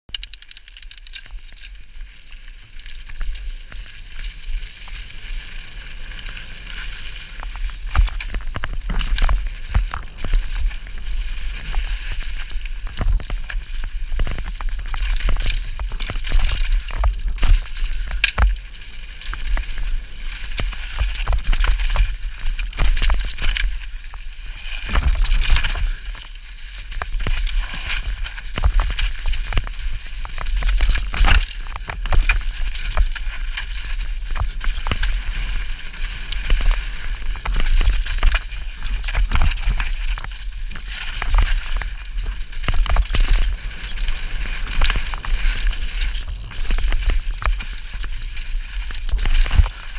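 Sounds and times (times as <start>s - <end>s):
low rumble of wind: 0.1s - 49.9s
tyres rolling and skidding on dirt: 1.1s - 49.9s
bike knocks and rattles: 7.3s - 49.9s.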